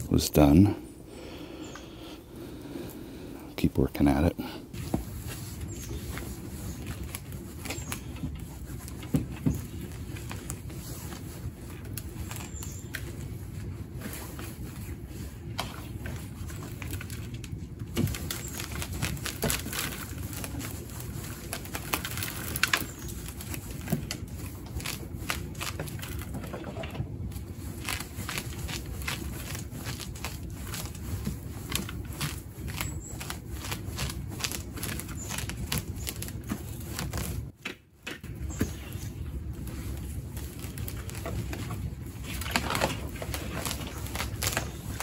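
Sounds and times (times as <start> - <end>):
steady low hum: 0.0 - 45.0
rake scratching through roots: 4.0 - 37.5, 38.4 - 45.0.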